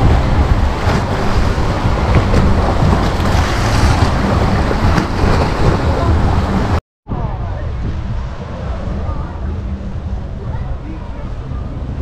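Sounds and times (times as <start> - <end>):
sea waves breaking on shore: 0.0 - 12.0
wind buffeting microphone: 0.0 - 12.0.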